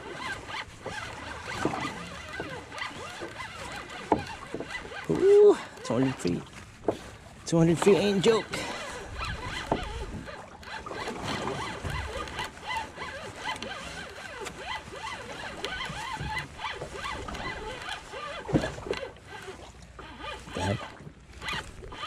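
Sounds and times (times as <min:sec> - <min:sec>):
fishing reel whirring: 0:00.0 - 0:06.4, 0:08.1 - 0:22.0.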